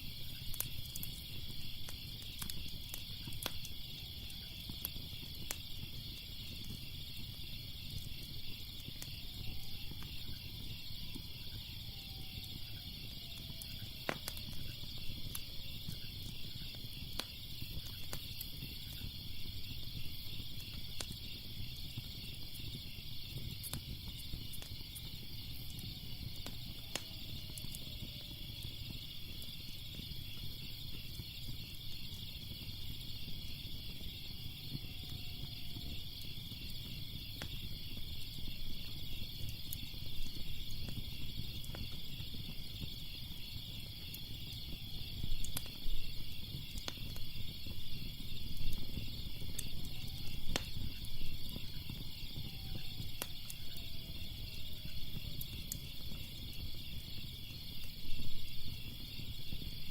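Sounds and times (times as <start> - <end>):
crickets chirping: 0.0 - 59.9
fire crackling and popping: 0.0 - 59.9.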